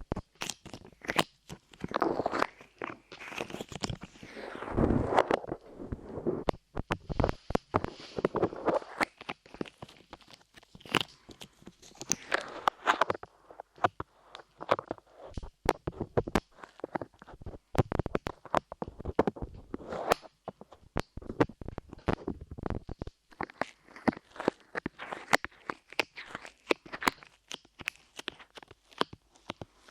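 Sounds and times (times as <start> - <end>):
clay squishing against microphone: 0.0 - 29.9.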